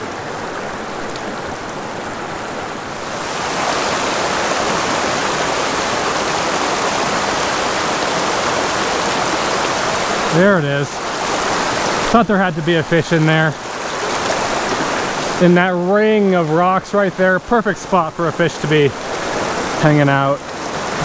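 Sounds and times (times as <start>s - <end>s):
creek water rushing over stones: 0.0s - 21.0s.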